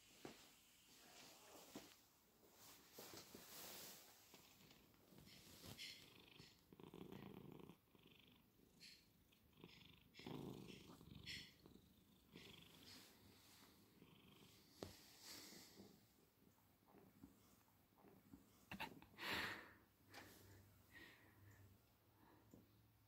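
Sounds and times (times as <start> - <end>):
cat purring faintly: 2.6 - 23.0.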